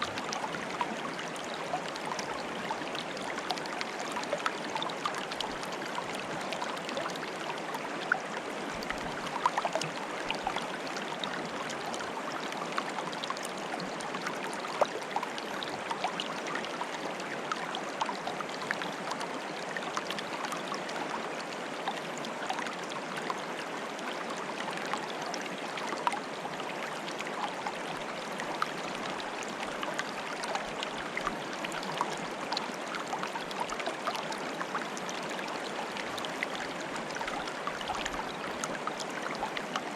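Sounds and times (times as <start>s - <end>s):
water bubbling and trickling: 0.0s - 39.9s.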